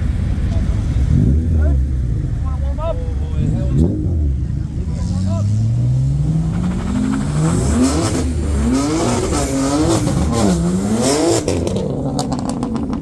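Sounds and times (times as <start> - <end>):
car engine revving hard: 0.9 - 2.4, 3.3 - 13.0.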